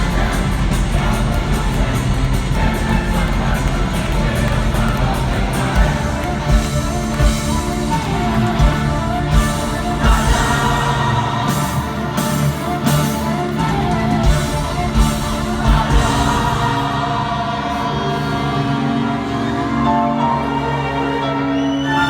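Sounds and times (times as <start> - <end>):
heavy drum and cymbal hits: 0.0 - 18.0
live rock band with singing: 0.0 - 19.1.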